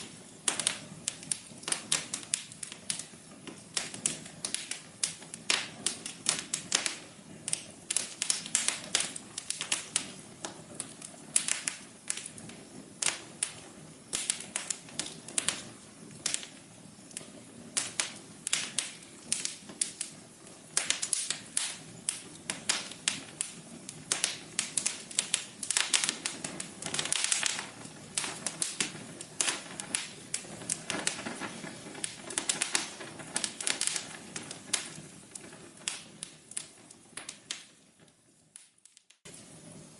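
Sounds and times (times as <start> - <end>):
soft hiss of burning: 0.0 - 39.9
wood fire crackling: 0.0 - 39.9.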